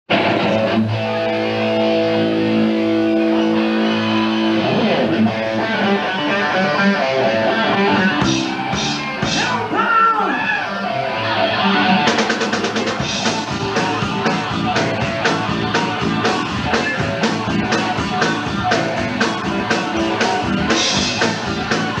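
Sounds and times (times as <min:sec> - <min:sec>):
distorted electric guitar: 0:00.1 - 0:22.0.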